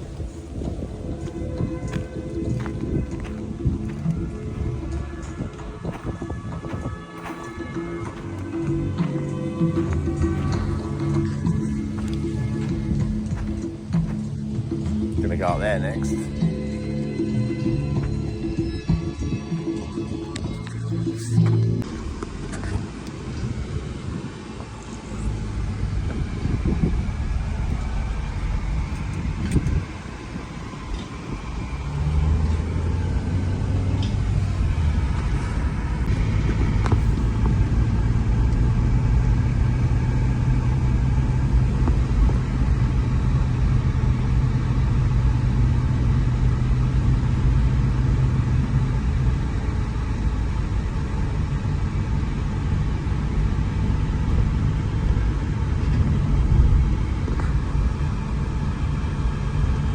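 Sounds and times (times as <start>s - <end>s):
car engine humming: 0.0s - 59.9s
road rumble: 0.0s - 59.9s.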